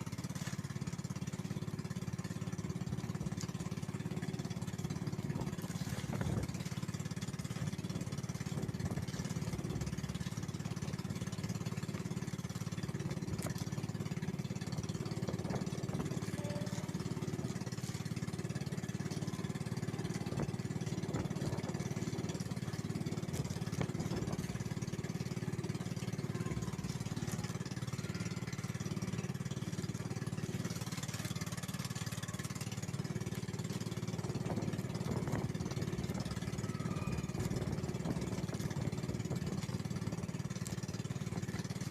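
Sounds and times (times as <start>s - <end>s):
small boat engine droning: 0.0s - 41.9s.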